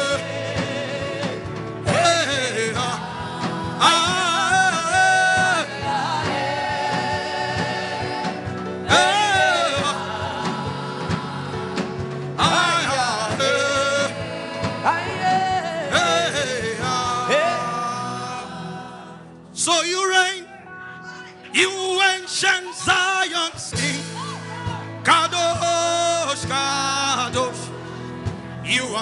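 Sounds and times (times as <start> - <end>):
person singing gospel: 0.0 - 29.0
sustained instrumental backing: 0.0 - 29.0.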